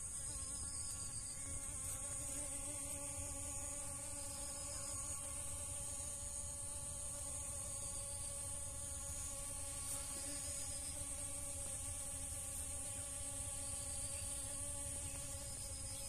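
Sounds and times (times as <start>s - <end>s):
honeybees buzzing: 1.5s - 16.0s.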